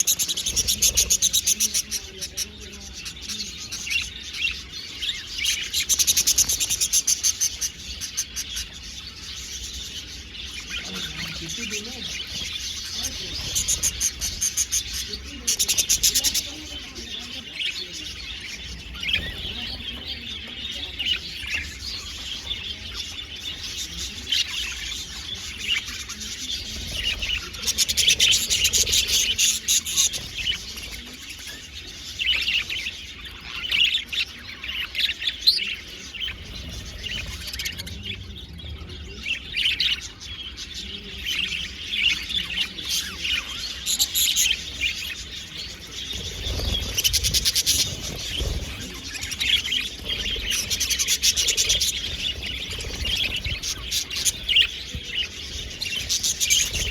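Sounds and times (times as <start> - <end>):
budgerigars chattering and warbling: 0.0 - 56.9.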